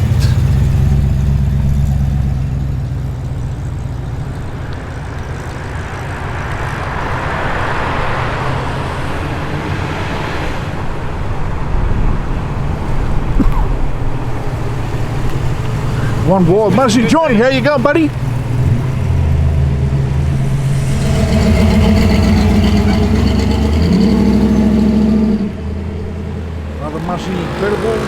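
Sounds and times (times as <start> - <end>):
muscle car engines rumbling past: 0.0 - 28.0.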